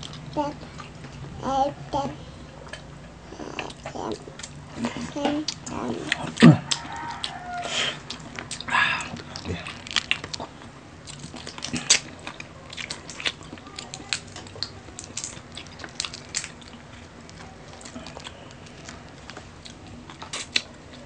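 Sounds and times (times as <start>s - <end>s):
chewing and crunching: 0.0s - 1.4s, 2.4s - 21.0s.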